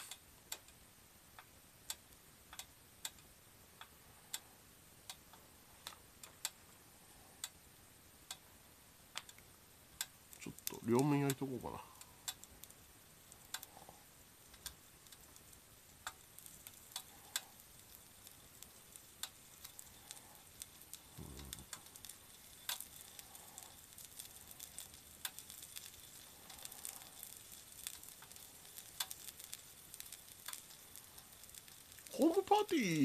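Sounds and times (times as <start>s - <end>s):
sharp ticks and pops: 0.0s - 33.0s
food sizzling on hot plate: 5.7s - 33.0s.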